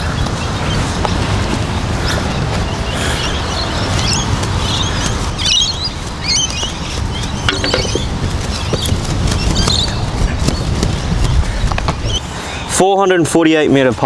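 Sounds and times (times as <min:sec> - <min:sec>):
birds chirping and twittering: 0:00.0 - 0:12.8
wind buffeting microphone: 0:00.0 - 0:12.8.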